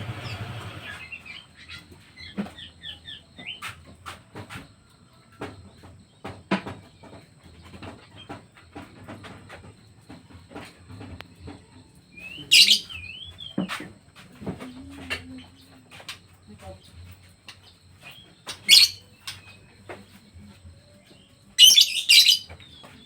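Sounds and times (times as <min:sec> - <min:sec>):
pet birds chirping and warbling: 0:00.0 - 0:03.8, 0:05.4 - 0:23.0.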